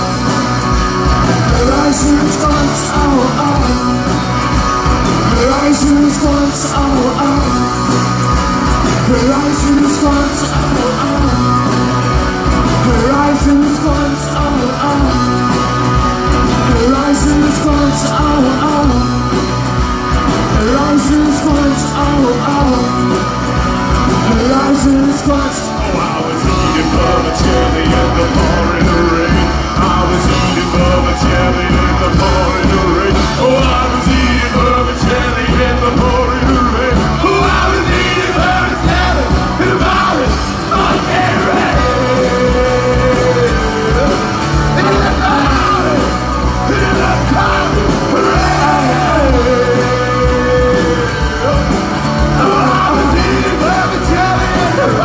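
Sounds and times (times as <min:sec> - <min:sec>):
bass guitar: 0:00.0 - 0:55.0
drums: 0:00.0 - 0:55.0
electric guitar: 0:00.0 - 0:55.0
person singing: 0:00.0 - 0:55.0.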